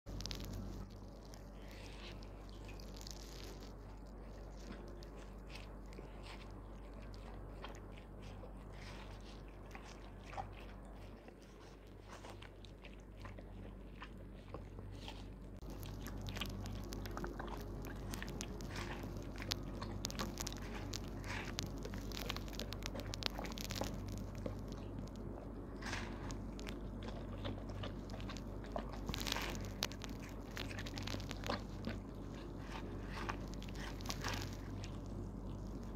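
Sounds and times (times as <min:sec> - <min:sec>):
dog chewing watermelon: 0:00.1 - 0:35.9
steady low hum: 0:00.1 - 0:35.9.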